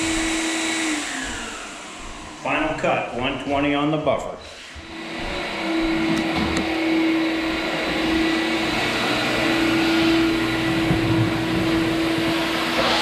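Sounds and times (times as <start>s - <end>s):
floor buffer sanding: 0.0s - 13.0s.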